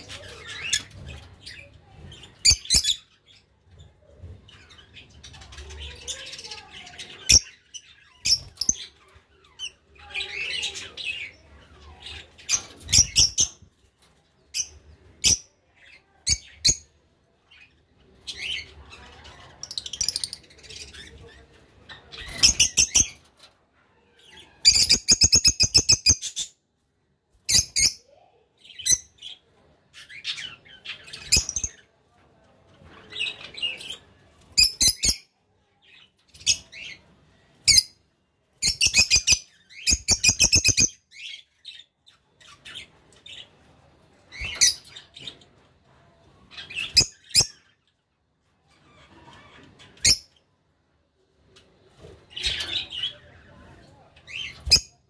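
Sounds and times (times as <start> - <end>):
lovebirds chirping and screeching: 0.0 - 26.6, 27.4 - 31.9, 38.6 - 45.6, 46.5 - 48.0, 48.6 - 50.4, 52.0 - 55.0.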